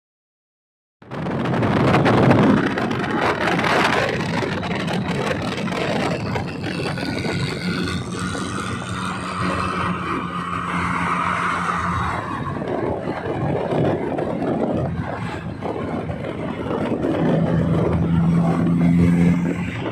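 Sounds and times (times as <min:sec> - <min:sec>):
car engine and exhaust running: 0:01.0 - 0:19.9.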